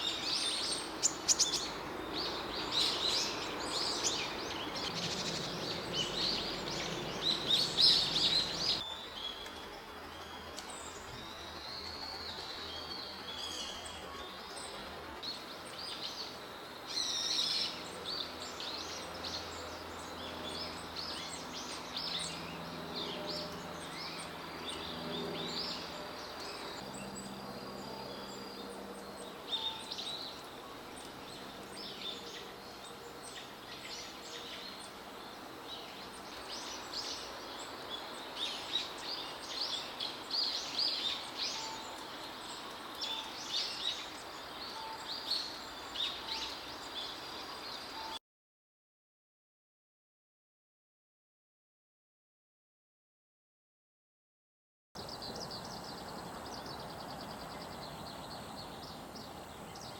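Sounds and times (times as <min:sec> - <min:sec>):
small songbirds chirping: 0:00.0 - 0:48.2, 0:55.0 - 0:59.9.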